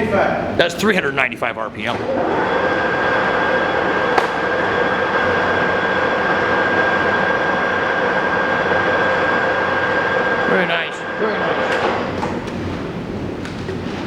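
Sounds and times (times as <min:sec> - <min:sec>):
high whine: 0:01.0 - 0:14.0
lathe gearhead hum: 0:01.9 - 0:14.0.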